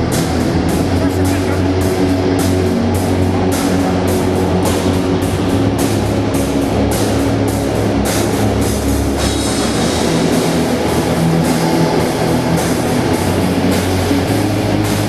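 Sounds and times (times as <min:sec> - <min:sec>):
cymbal crashes: 0:00.0 - 0:15.0
metal band playing live: 0:00.0 - 0:15.0.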